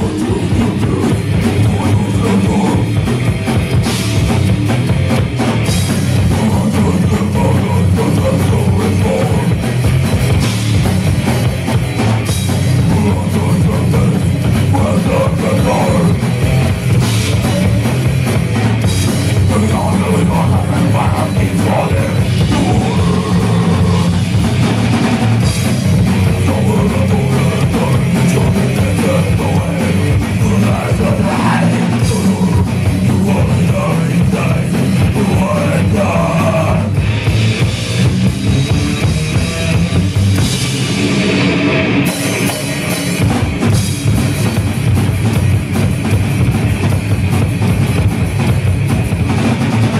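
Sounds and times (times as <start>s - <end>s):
distorted electric guitars: 0.0s - 49.9s
drum kit: 0.0s - 49.9s.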